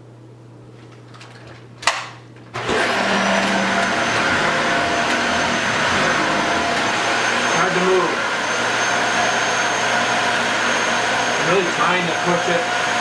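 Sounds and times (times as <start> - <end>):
vacuum cleaner motor whine: 2.5 - 13.0.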